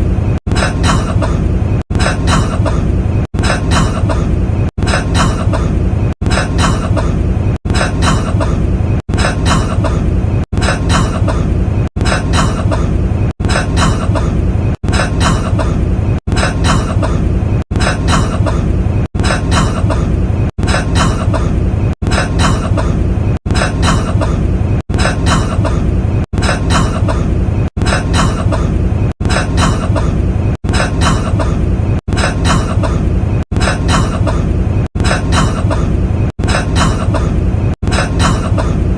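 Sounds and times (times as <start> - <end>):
man coughing: 0.5 - 38.9.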